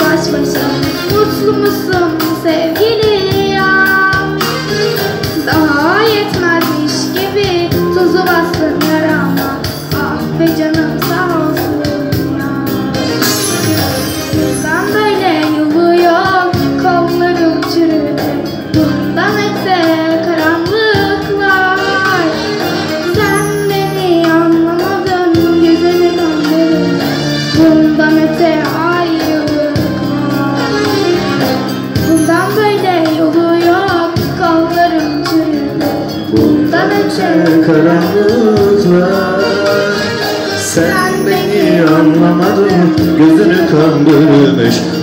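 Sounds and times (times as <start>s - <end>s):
girl singing: 0.0s - 4.4s, 5.4s - 12.6s, 14.4s - 22.4s, 23.0s - 31.1s, 32.0s - 40.0s, 40.7s - 43.3s
keyboard backing and beat: 0.0s - 45.0s
ornamented sliding melody: 7.8s - 18.1s, 19.1s - 45.0s.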